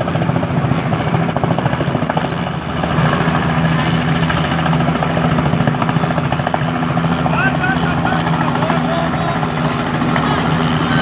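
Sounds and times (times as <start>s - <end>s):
helicopter engine drone: 0.0s - 11.0s
rotor blades pulsing: 0.0s - 11.0s.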